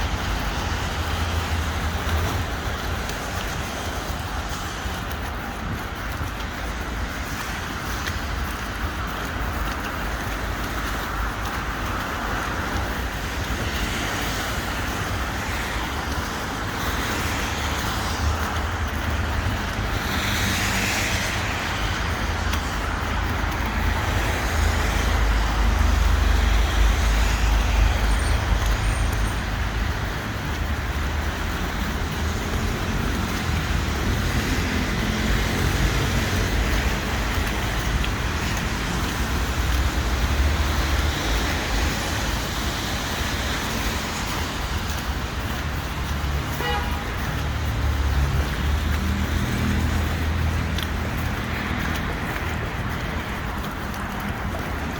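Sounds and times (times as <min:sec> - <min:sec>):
car passing by: 0:00.0 - 0:54.9
road traffic rumble: 0:00.0 - 0:54.9.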